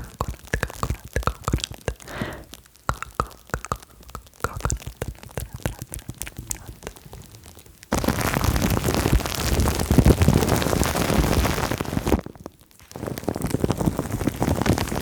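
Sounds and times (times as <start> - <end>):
plastic film and foam crinkling: 0.0 - 15.0.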